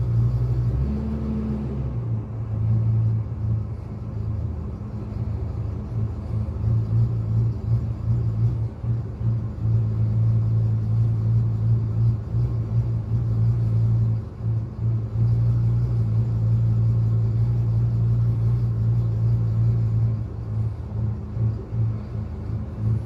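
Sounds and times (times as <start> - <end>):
truck engine idling unevenly: 0.0 - 23.0.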